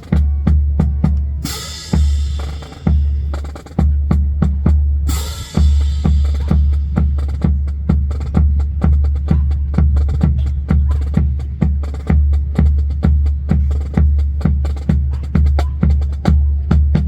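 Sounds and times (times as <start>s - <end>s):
percussion music with heavy beat: 0.0s - 17.0s.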